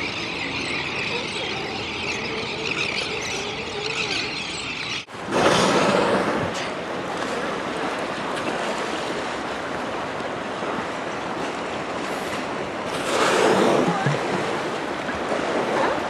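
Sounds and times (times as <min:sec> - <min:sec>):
choppy sea water and wind: 0:00.0 - 0:16.0.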